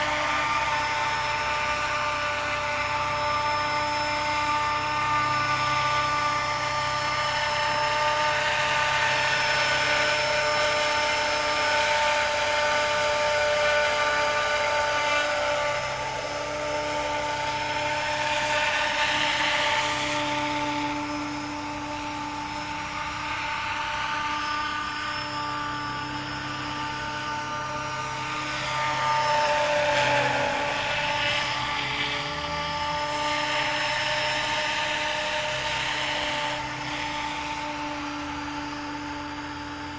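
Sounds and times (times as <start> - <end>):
helicopter rotor rush: 0.0 - 39.9
model helicopter whine: 0.0 - 39.9.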